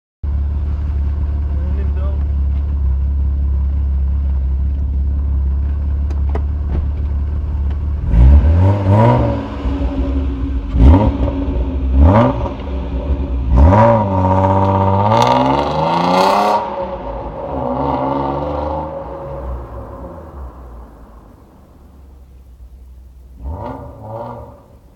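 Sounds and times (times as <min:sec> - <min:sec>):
car engine idling and revving: 0:00.2 - 0:24.9.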